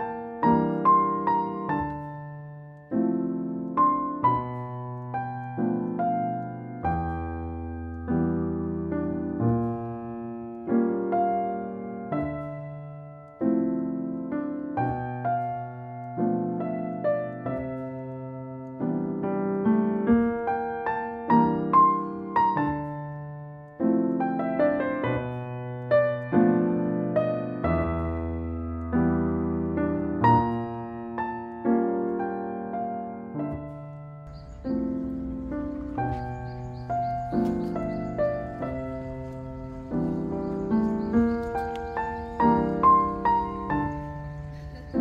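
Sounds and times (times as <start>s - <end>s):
gentle solo piano music: 0.0s - 45.0s.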